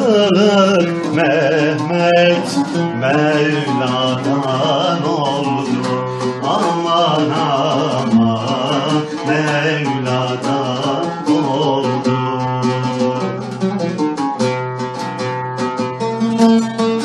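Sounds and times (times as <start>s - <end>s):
folk song on plucked strings: 0.0s - 17.0s.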